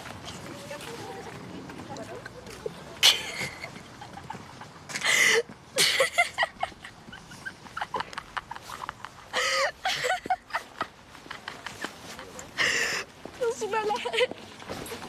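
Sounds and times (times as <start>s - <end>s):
teenagers laughing and squealing: 2.0s - 14.4s.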